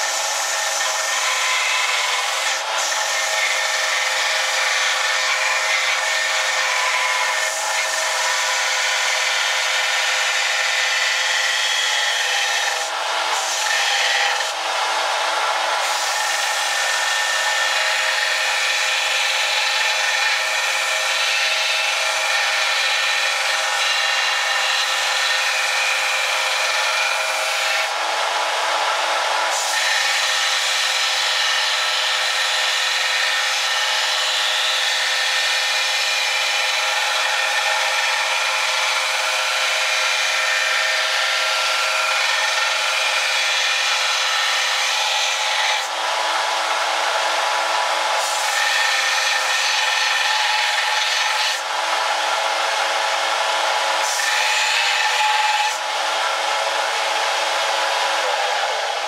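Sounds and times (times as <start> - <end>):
power tool grinding steel: 0.0 - 59.0.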